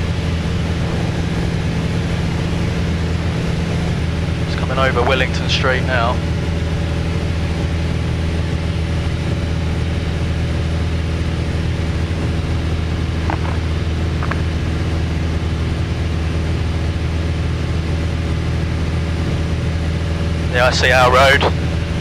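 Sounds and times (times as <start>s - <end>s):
airplane engine droning in cabin: 0.0s - 22.0s.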